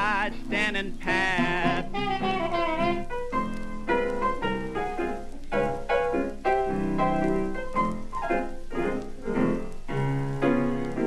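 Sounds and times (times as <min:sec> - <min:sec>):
jazz piano: 0:00.0 - 0:11.0.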